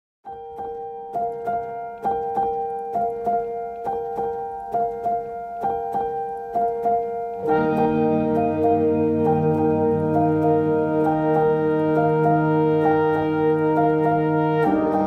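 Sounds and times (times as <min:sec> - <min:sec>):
calm piano music: 0:00.2 - 0:15.0.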